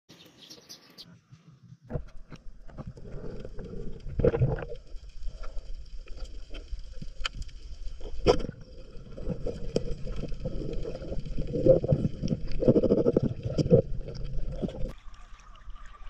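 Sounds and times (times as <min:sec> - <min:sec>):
underwater crackling and knocking: 0:01.9 - 0:15.0.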